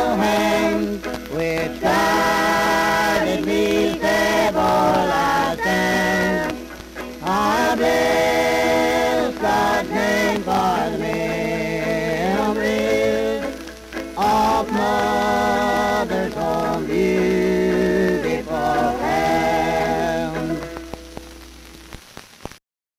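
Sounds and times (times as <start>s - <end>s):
vocal group singing in harmony: 0.0s - 21.0s
record surface hiss: 0.0s - 22.6s.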